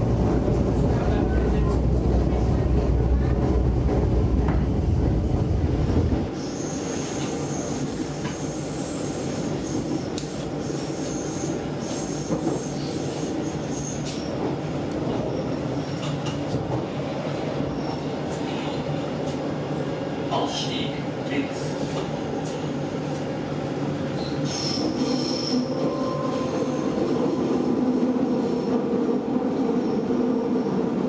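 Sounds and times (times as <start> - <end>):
electric train running on rails: 0.0 - 31.0.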